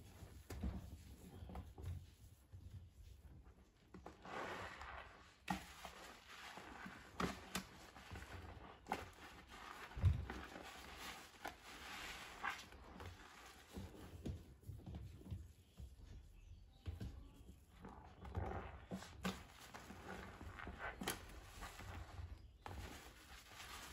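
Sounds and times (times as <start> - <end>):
sponge squelching in soapy water: 0.0 - 23.9.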